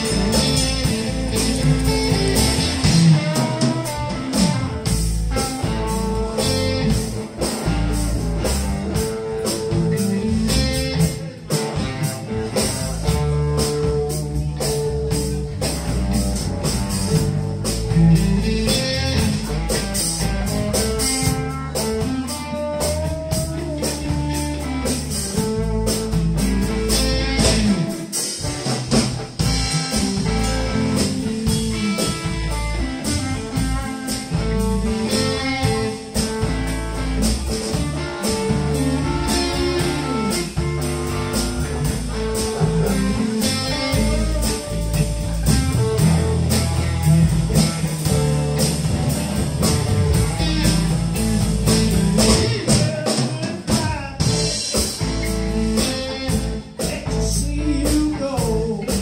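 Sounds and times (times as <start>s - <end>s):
drum kit beat: 0.0s - 59.0s
electric bass: 0.0s - 59.0s
electric guitars: 0.0s - 59.0s.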